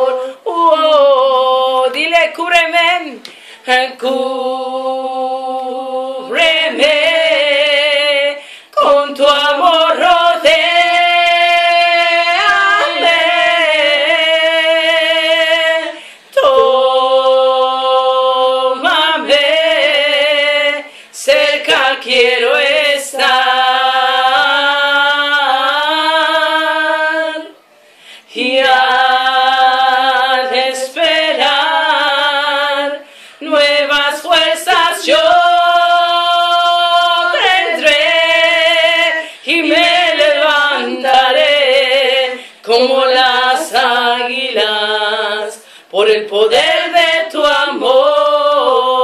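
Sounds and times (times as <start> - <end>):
women singing a cappella: 0.0 - 49.0.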